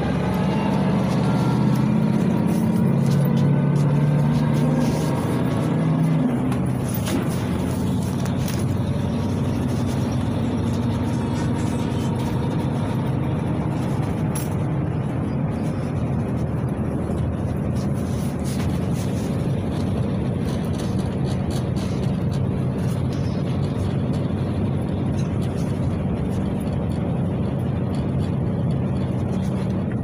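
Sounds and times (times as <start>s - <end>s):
bus engine drone: 0.0s - 30.0s
road noise: 0.0s - 30.0s.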